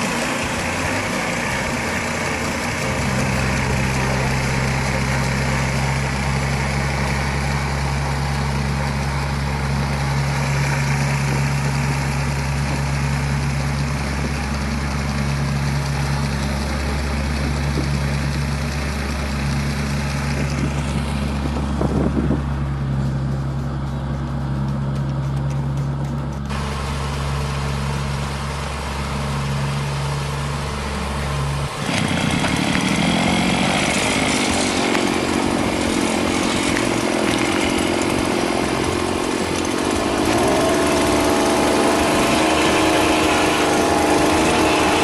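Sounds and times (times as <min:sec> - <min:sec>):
farm machine engine droning: 0:00.0 - 0:45.0.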